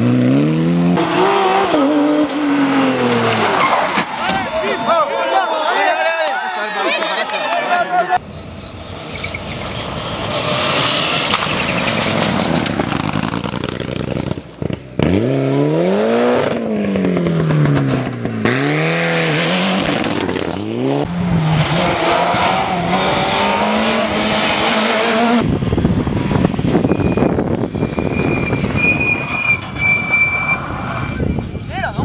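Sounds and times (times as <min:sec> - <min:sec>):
rally car engine revving: 0:00.0 - 0:04.9, 0:08.9 - 0:31.2.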